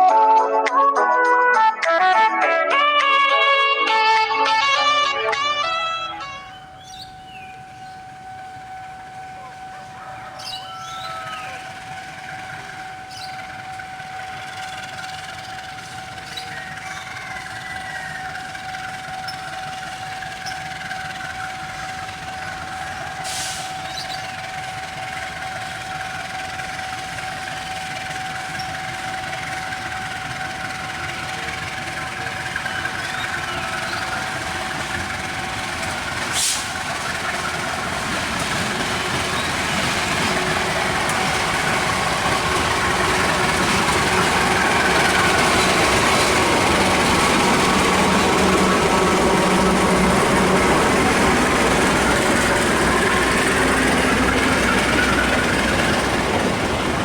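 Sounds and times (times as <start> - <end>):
steady high tone: 0.0 - 36.2, 36.8 - 57.0
train running on rails: 3.0 - 57.0.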